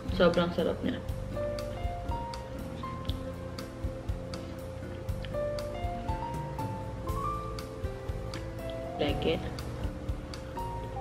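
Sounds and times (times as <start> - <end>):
background music with light beat: 0.0 - 11.0.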